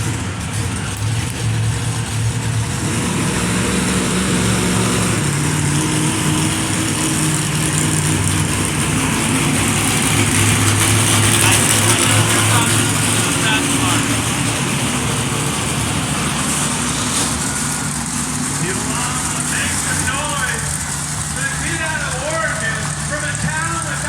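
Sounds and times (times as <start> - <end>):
monster truck engine running: 0.0 - 24.0.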